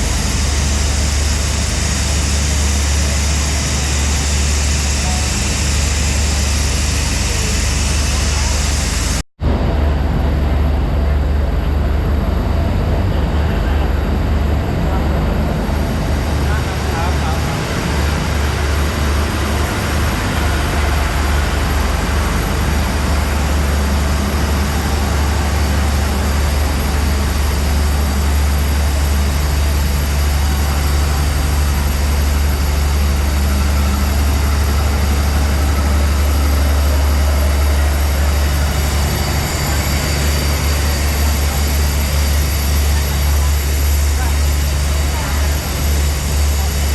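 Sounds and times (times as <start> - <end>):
heavy engine idling: 0.0 - 46.9.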